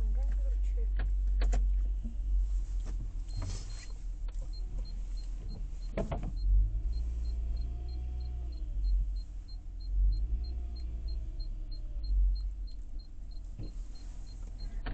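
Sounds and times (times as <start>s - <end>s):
car engine and road rumble: 0.0s - 14.9s
turn signal ticking: 0.0s - 14.9s.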